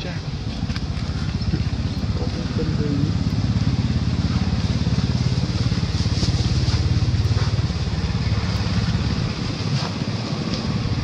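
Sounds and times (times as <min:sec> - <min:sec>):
small engine running: 0:00.1 - 0:11.0.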